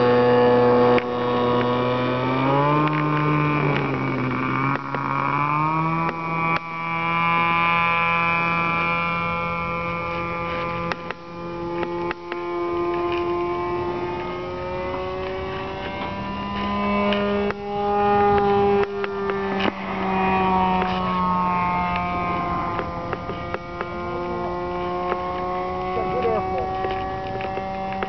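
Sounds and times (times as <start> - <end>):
model plane engine buzzing: 0.0 - 28.0.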